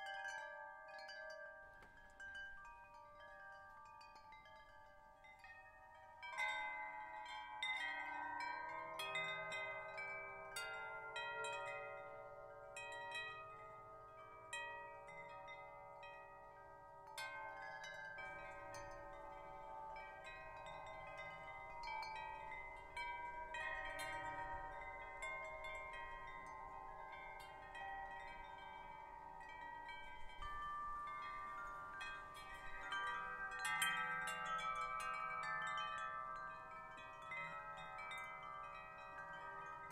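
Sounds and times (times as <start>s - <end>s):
metal wind chimes ringing: 0.0s - 39.9s.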